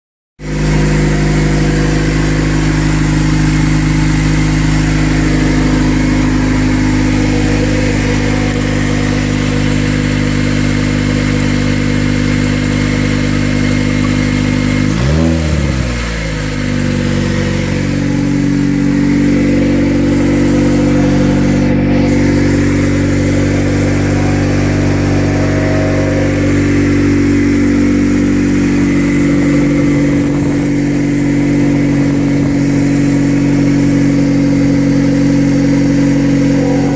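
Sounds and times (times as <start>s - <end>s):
car engine idling: 0.4s - 36.9s.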